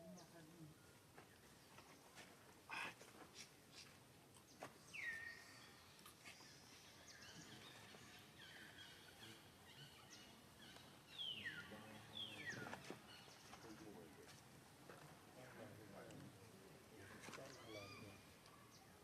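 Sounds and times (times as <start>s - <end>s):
low background noise: 0.0s - 19.0s.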